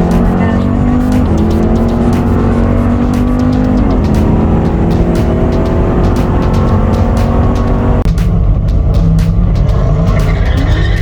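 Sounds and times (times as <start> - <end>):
race car engine at high revs: 0.0 - 10.5.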